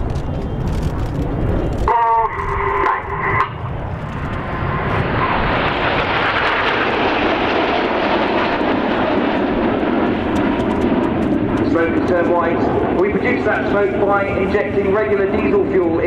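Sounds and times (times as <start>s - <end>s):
jets passing overhead: 0.0s - 16.0s.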